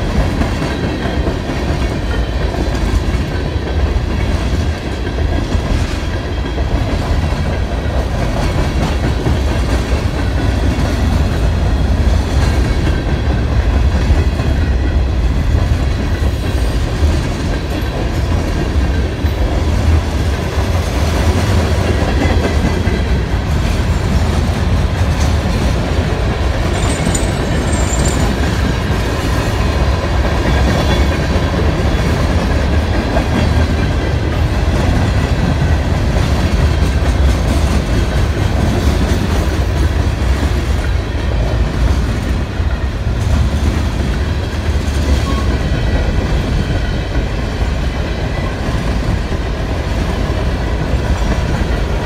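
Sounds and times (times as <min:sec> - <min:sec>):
freight train wheels rumbling: 0:00.0 - 0:52.0.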